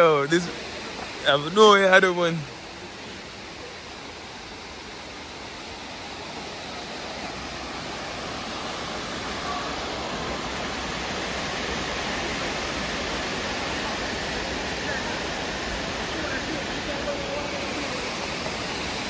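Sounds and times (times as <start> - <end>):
rushing waterfall: 0.0 - 19.0.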